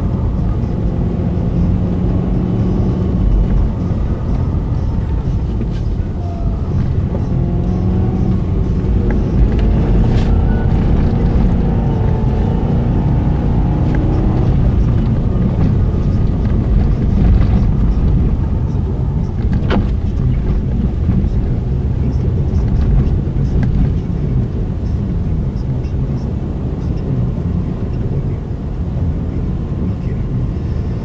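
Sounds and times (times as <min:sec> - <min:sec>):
engine and tyres rumbling on snow: 0:00.0 - 0:31.0.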